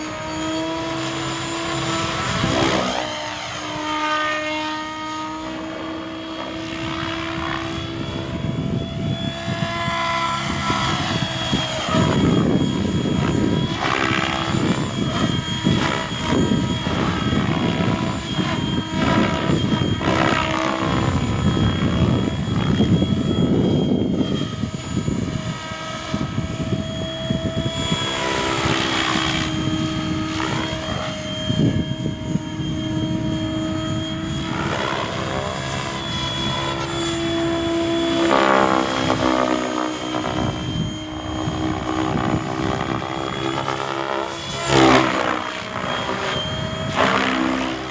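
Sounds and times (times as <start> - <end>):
rc helicopter whine: 0.0 - 47.9.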